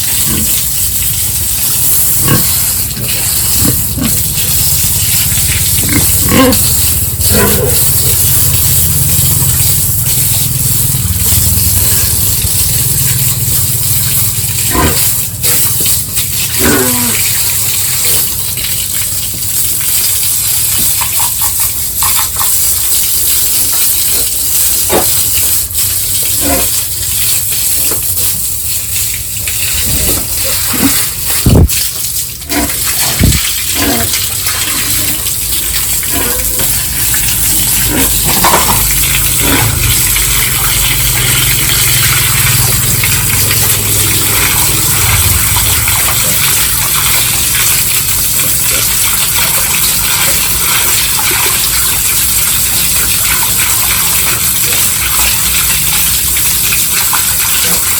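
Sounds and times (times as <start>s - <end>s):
water spraying from a hose: 0.0s - 57.9s.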